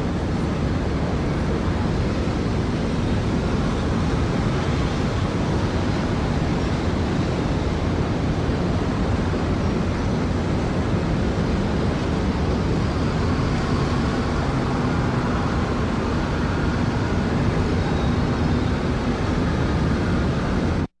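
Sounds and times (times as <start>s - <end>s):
distant city traffic hum: 0.0s - 20.9s.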